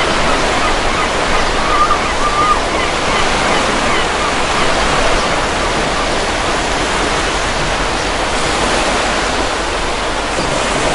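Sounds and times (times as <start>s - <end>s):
ocean surf on a beach: 0.0s - 10.9s.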